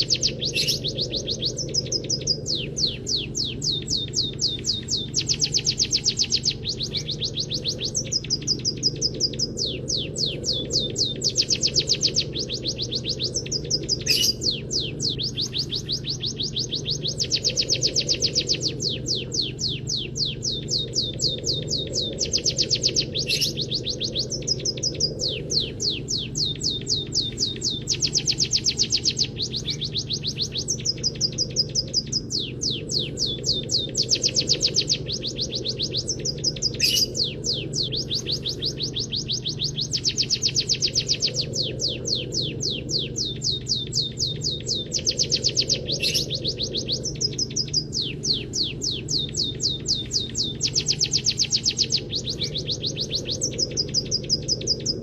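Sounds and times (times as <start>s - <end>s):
bird singing high trills: 0.0s - 55.0s
low hum: 0.0s - 55.0s.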